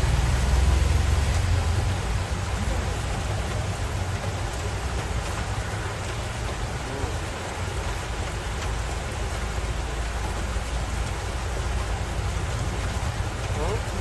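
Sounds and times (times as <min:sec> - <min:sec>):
heavy rain on street: 0:00.0 - 0:14.0
water surging from manhole: 0:00.0 - 0:14.0.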